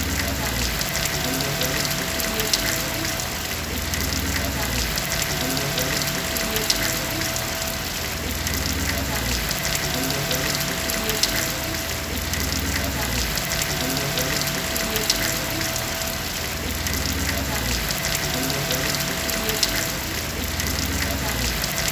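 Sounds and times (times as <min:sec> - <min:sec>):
raindrops tapping: 0:00.0 - 0:21.9
steady rain hiss: 0:00.0 - 0:21.9.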